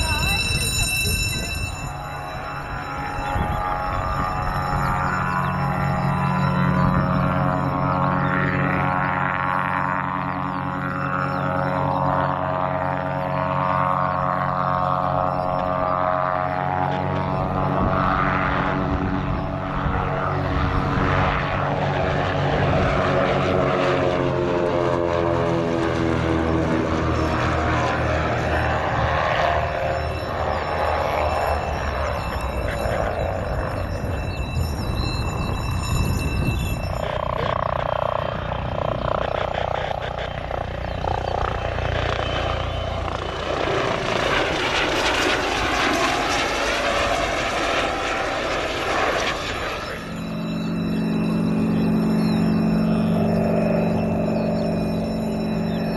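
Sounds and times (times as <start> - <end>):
helicopter flying past: 0.0 - 55.9
propeller plane passing low: 0.0 - 55.9.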